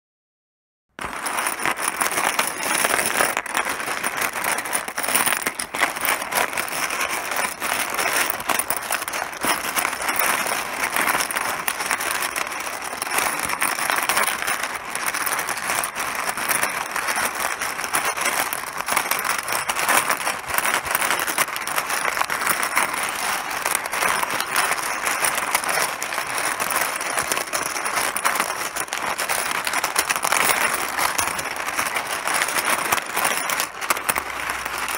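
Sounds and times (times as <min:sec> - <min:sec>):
mahjong tiles clattering: 0:01.0 - 0:34.9.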